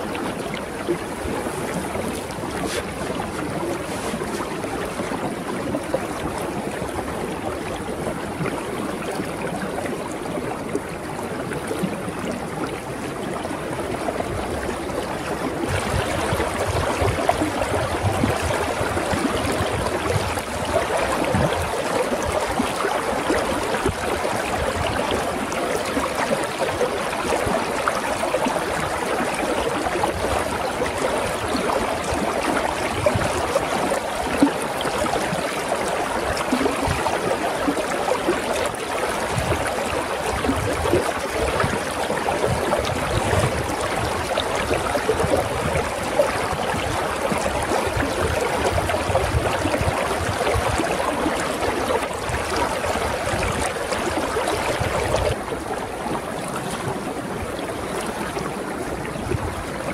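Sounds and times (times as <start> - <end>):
river water running over stones: 0.0 - 59.9.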